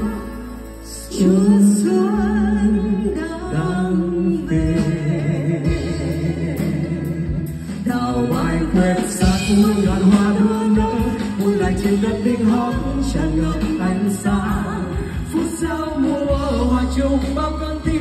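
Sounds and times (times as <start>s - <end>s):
backing track music: 0.0s - 18.0s
person singing: 0.0s - 18.0s.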